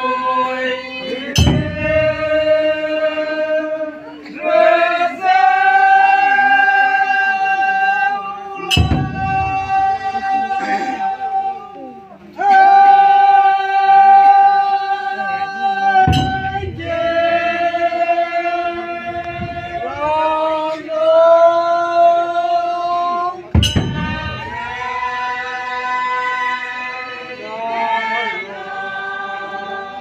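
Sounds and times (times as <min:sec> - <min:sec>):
choir singing held notes: 0:00.0 - 0:30.0.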